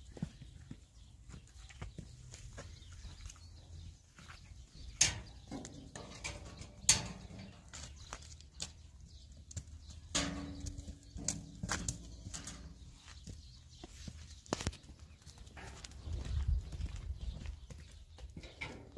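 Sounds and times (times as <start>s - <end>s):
livestock knocks and clicks: 0.0s - 18.9s.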